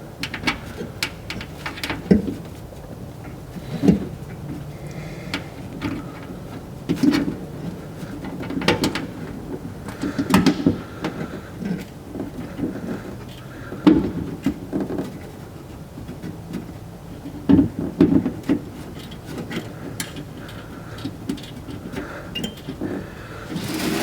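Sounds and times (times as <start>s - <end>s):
small parts rattling in metal door: 0.1s - 24.0s.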